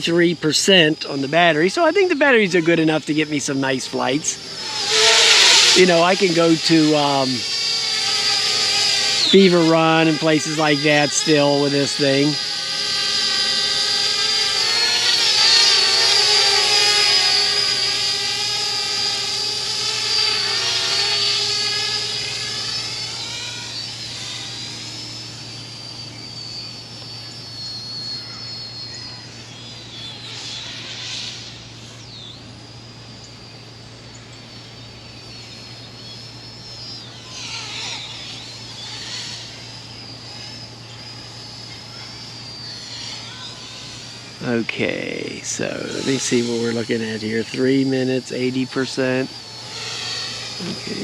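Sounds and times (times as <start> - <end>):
drone propellers whining: 0.0 - 51.0.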